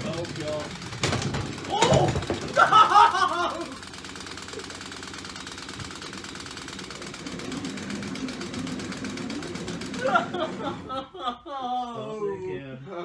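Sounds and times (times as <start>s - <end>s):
toy robot motors rattling: 0.0s - 10.8s.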